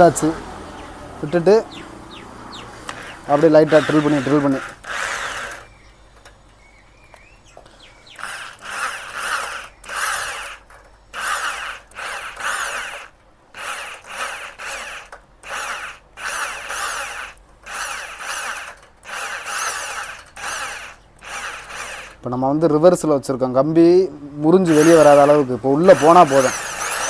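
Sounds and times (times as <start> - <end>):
electric drill bursts: 0.0 - 5.8, 8.1 - 22.4, 24.6 - 27.0.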